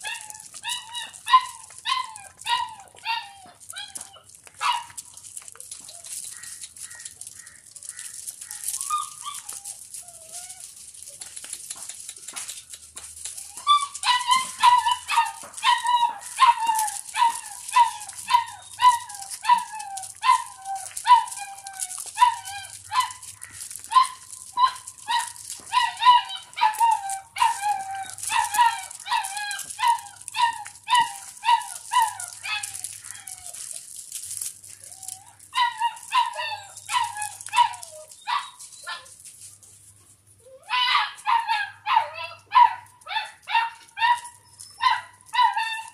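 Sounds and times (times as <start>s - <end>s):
puppy yelping: 0.0s - 5.0s, 5.6s - 11.3s, 13.2s - 33.8s, 34.8s - 39.2s, 40.4s - 45.9s.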